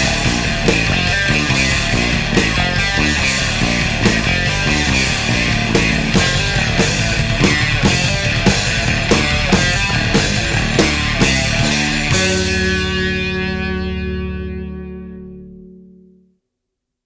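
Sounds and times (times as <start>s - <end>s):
progressive rock music: 0.0s - 15.9s.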